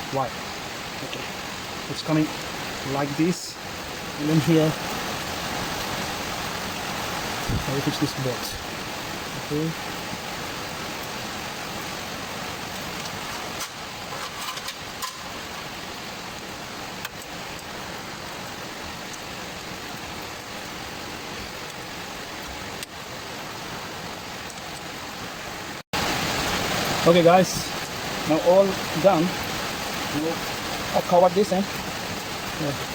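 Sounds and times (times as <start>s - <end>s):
rain hiss: 0.0s - 32.9s.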